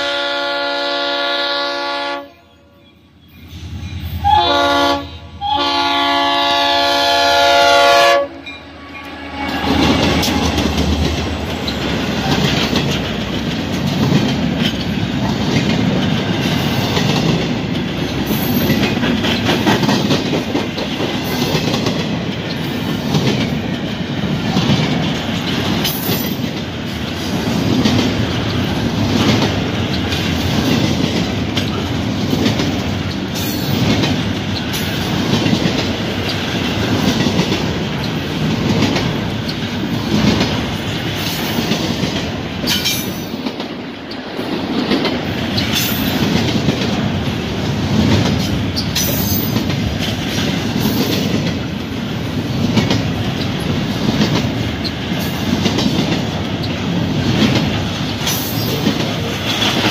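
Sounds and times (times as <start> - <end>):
train wheels rumbling on rail: 0.0 - 59.9
train wheels clacking: 8.4 - 59.9.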